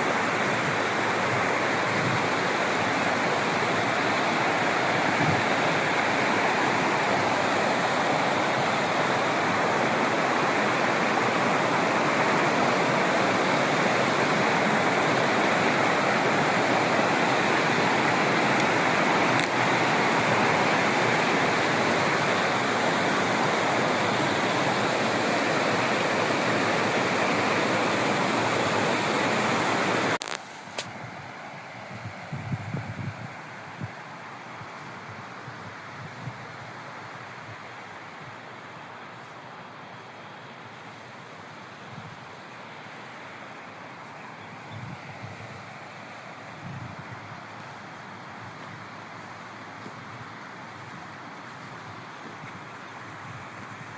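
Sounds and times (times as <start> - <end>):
wind noise: 0.0 - 38.4, 44.5 - 53.9
waterfall roaring: 0.0 - 53.9.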